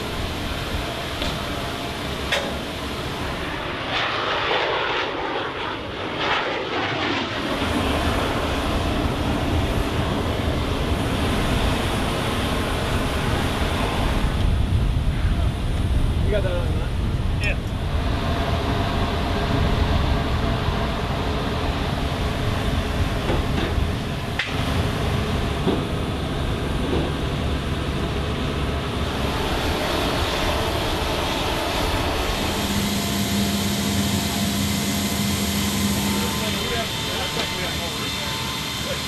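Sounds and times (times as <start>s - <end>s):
engines rumbling: 0.0s - 39.0s.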